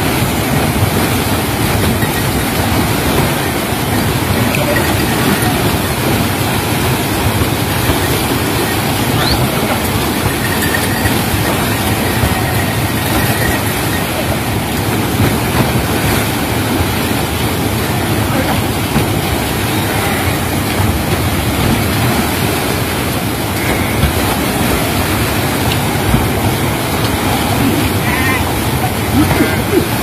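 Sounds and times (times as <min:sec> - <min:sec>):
river rushing over weir: 0:00.0 - 0:30.0.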